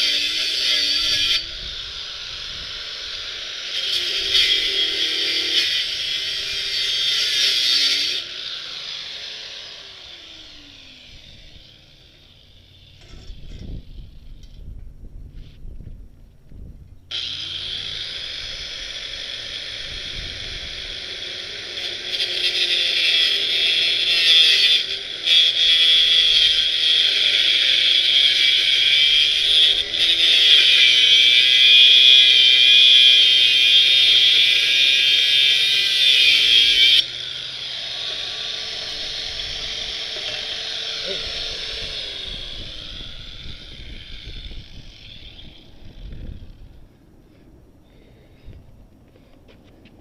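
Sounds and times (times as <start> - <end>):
power tool grinding through steel: 0.0 - 14.4, 17.1 - 46.8
power tool running: 0.0 - 14.5, 17.1 - 46.9.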